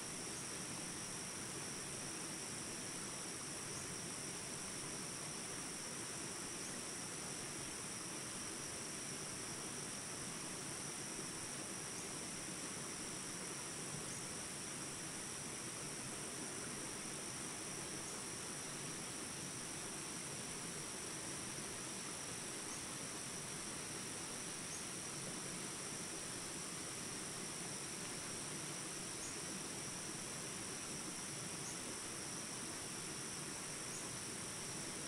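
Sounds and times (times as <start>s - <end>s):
high-pitched insect chorus: 0.0s - 35.0s
soft even hiss: 0.0s - 35.0s.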